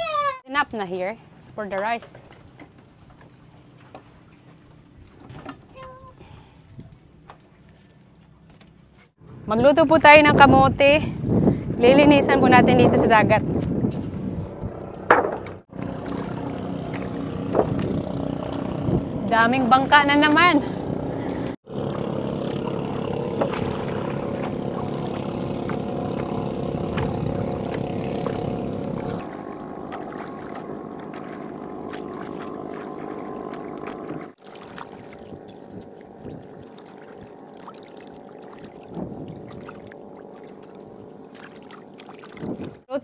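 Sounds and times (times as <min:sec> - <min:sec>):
motorboat engine humming: 0:00.0 - 0:42.9.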